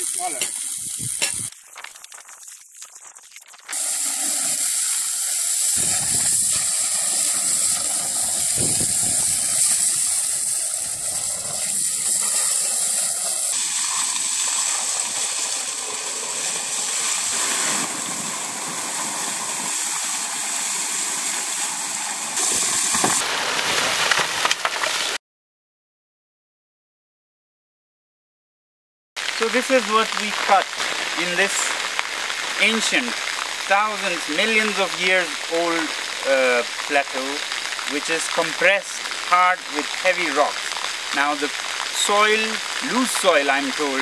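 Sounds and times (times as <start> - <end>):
water jet blasting rock: 0.0 - 25.1, 29.2 - 44.0.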